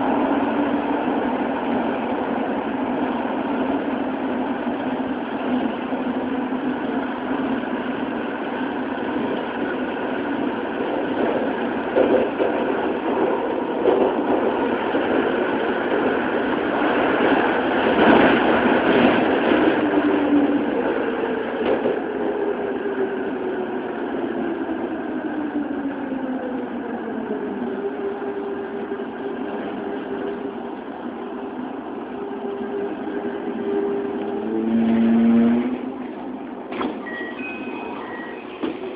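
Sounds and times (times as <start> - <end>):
rail running noise: 0.0 - 38.9
subway inverter whine: 0.0 - 38.9.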